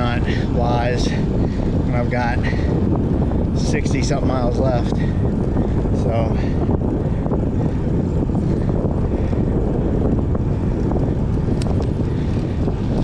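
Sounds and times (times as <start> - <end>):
wind rumbling over microphone: 0.0 - 13.0.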